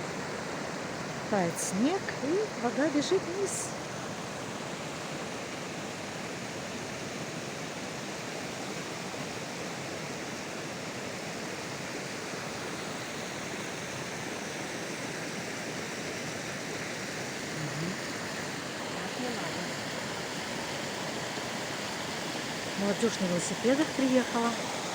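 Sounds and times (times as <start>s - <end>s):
mountain stream rushing: 0.0s - 24.9s.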